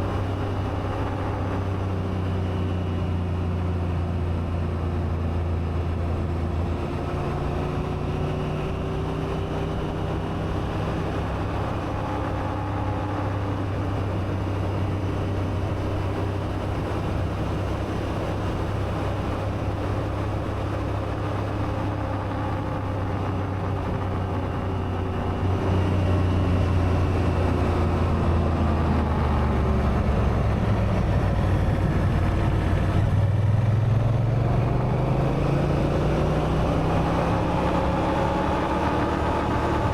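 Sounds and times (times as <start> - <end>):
road noise: 0.0 - 39.9
wind noise: 0.0 - 39.9.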